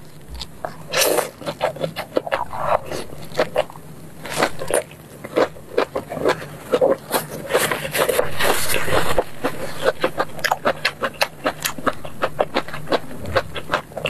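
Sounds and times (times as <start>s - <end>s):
biting and chewing: 0.0s - 14.0s.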